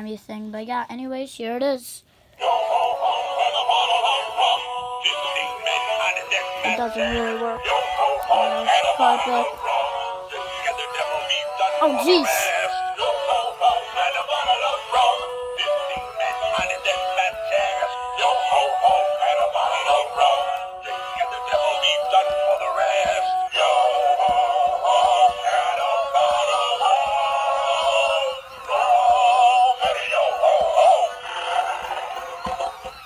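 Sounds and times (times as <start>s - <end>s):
tinny music from toy speaker: 2.4s - 33.0s
toy singing with tinny electronic voice: 2.4s - 33.0s.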